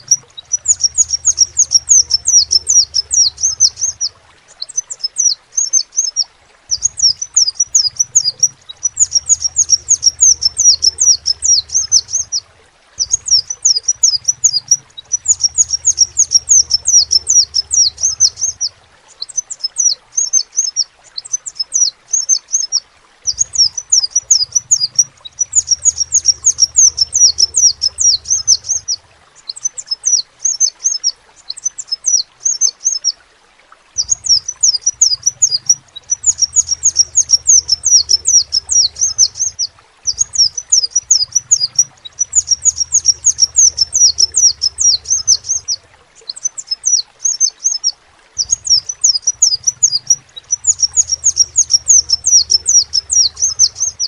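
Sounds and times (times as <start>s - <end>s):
bird high-pitched twittering: 0.0s - 12.4s, 13.0s - 33.1s, 34.0s - 54.0s.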